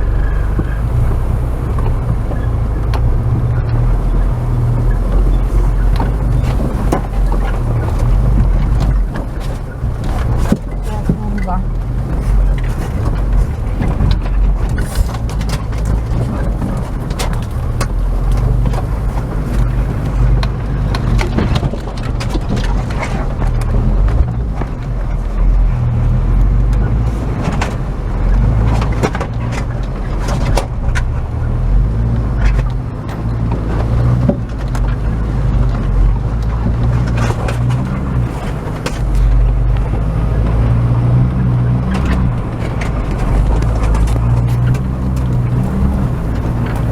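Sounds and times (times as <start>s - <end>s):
vehicle engine running: 0.0s - 46.9s
vehicle knocks and clatter: 0.0s - 46.9s.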